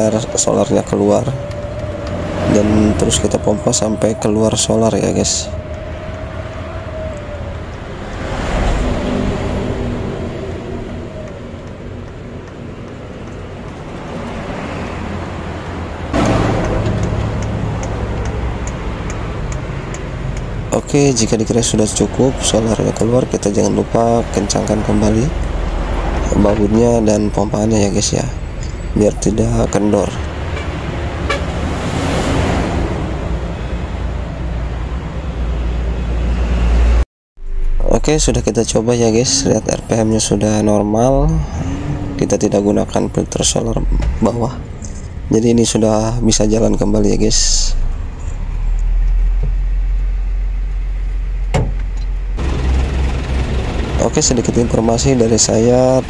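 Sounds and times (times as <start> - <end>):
road traffic passing: 0.0 - 56.0.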